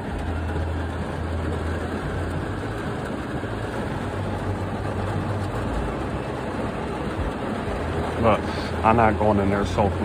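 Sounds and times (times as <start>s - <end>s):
heavy rain on a truck roof: 0.0s - 10.0s.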